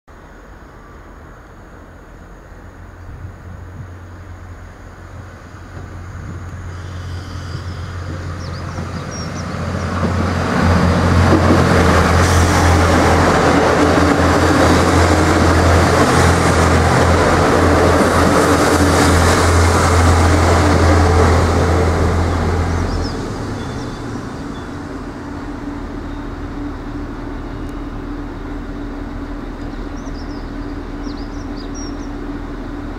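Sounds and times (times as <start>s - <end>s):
diesel train passing: 0.1s - 32.9s
train wheels on rails: 3.4s - 32.9s.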